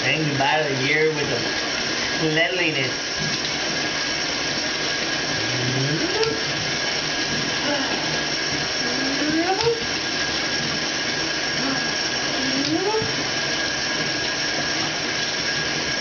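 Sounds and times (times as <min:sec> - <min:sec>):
steady whirring with high whine: 0:00.0 - 0:16.0.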